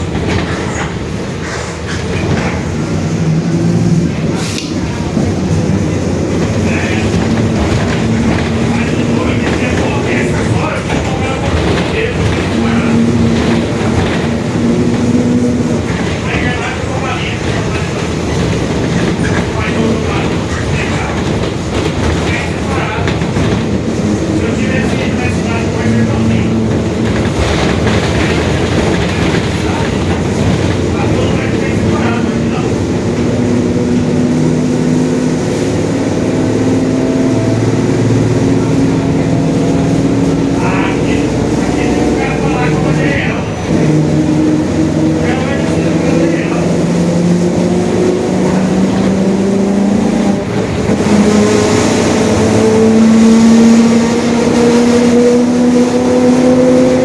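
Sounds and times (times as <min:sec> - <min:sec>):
bus diesel and road rumble: 0:00.0 - 0:57.0.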